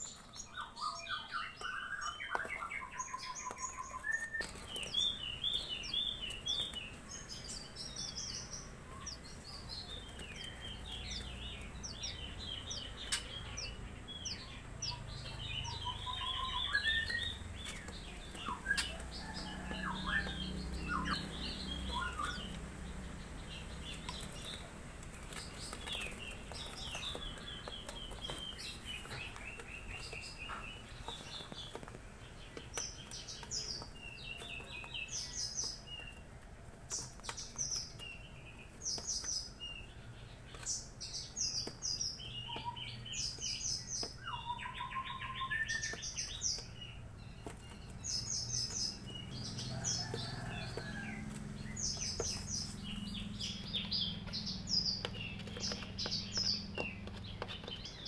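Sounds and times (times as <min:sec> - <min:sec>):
young birds chirping and trilling: 0:00.0 - 0:58.0.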